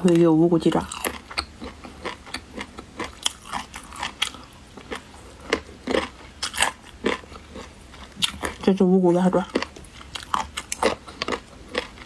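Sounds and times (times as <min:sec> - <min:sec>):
chewing with wet crunches: 0:00.0 - 0:12.0.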